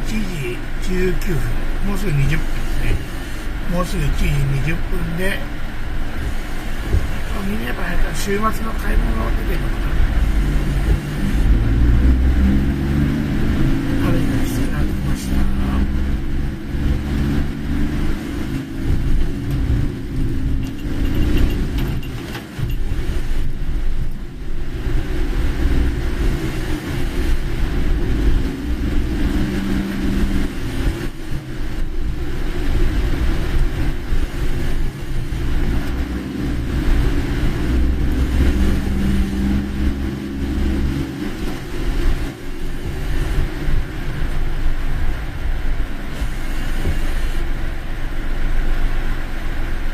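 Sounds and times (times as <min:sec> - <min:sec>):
car engine and road rumble: 0:00.0 - 0:49.9
tyre and rain hiss: 0:00.0 - 0:49.9.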